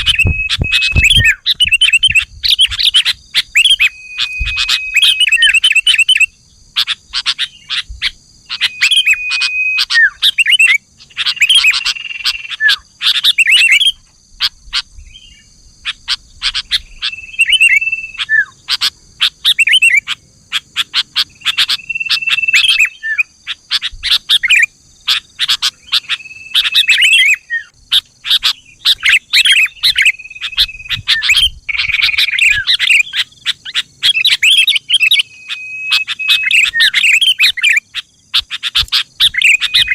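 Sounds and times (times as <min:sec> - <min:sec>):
bulbul singing: 0:00.0 - 0:39.9
steady high-pitched whine: 0:00.0 - 0:39.9.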